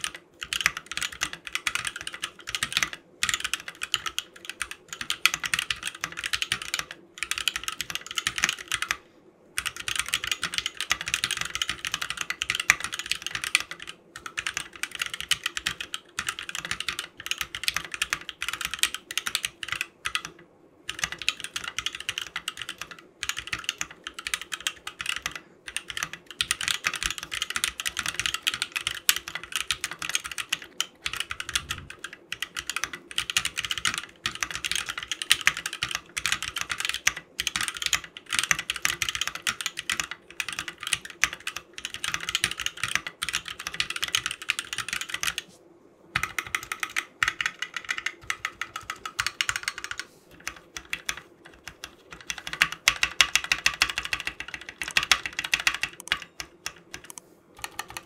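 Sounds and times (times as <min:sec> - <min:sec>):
mechanical keyboard typing: 0:00.0 - 0:09.0, 0:09.6 - 0:45.5, 0:46.2 - 0:58.0.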